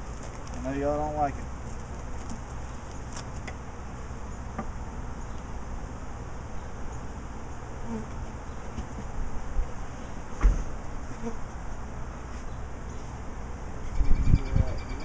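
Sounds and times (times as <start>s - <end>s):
honeybees buzzing: 0.0s - 13.9s.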